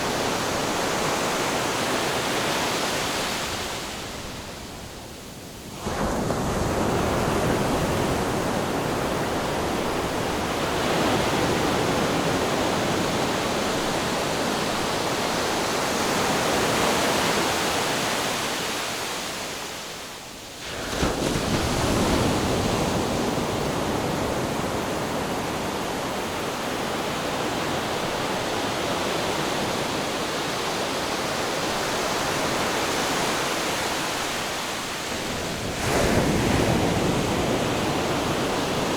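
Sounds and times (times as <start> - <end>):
ocean waves rushing onto shore: 0.0 - 38.9.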